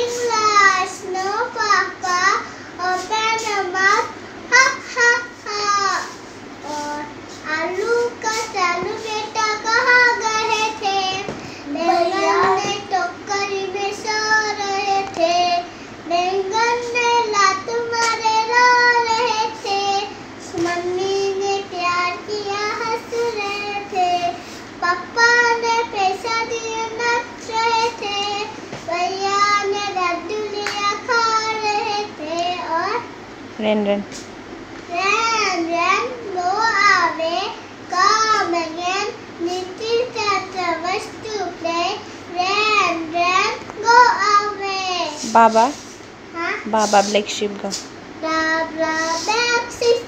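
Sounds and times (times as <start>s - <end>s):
girl singing: 0.0s - 33.1s, 34.9s - 45.8s, 48.2s - 50.0s.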